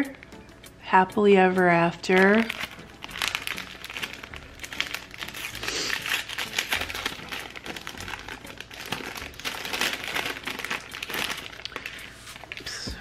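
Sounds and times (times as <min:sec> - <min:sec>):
plastic packet crackling: 0:02.0 - 0:13.0.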